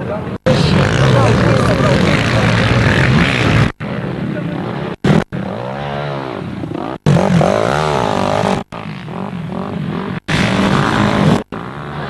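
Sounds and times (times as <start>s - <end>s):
motorcycle engine revving: 0.4s - 12.0s.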